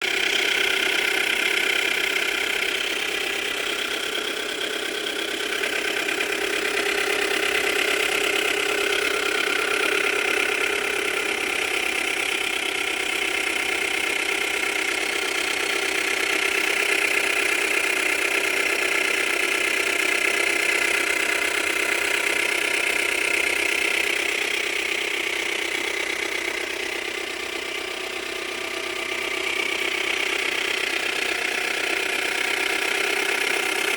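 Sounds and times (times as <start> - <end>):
car engine running: 0.0 - 33.9
engine knocking: 0.0 - 33.9.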